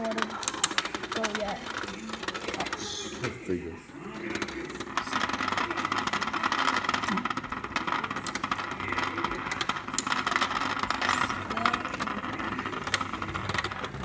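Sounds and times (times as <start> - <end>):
legs rattling on plastic: 0.0 - 3.5, 4.1 - 14.0.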